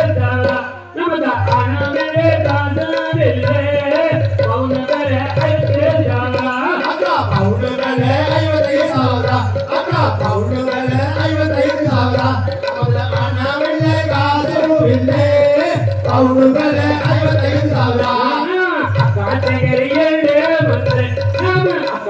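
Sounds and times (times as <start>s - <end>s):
steady drum beat: 0.0s - 22.0s.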